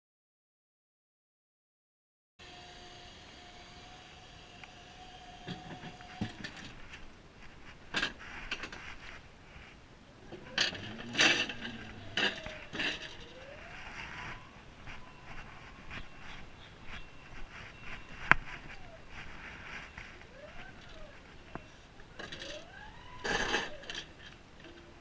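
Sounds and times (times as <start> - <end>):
faint steady tone: 2.4 - 25.0.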